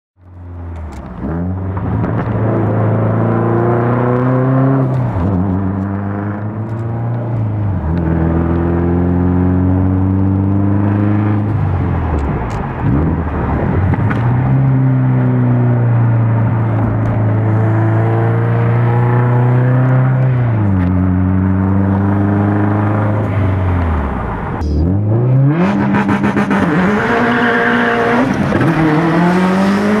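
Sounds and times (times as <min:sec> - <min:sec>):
turbocharged car engine revving: 0:01.1 - 0:30.0.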